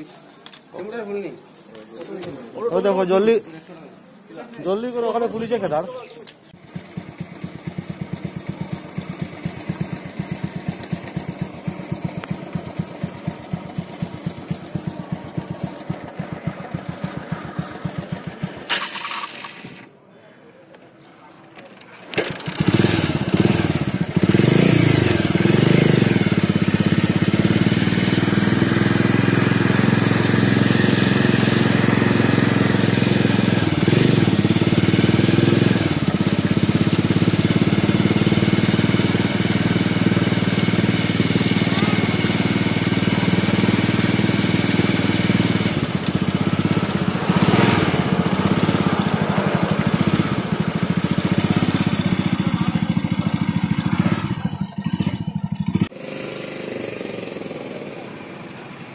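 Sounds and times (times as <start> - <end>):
motorcycle engine running: 6.5 - 19.8, 22.2 - 58.9.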